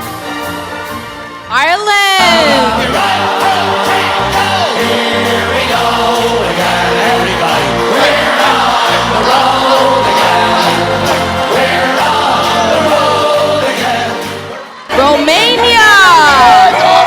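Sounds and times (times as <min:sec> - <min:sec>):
song with singing over a beat: 0:01.9 - 0:17.0.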